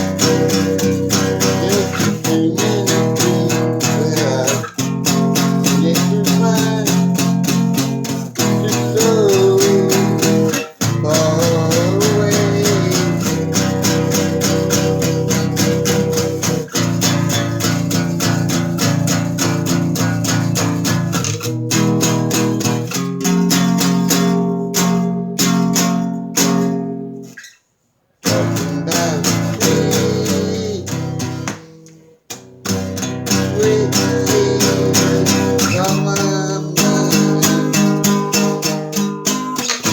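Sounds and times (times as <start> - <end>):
guitar strumming: 0.0 - 27.6, 28.2 - 39.9.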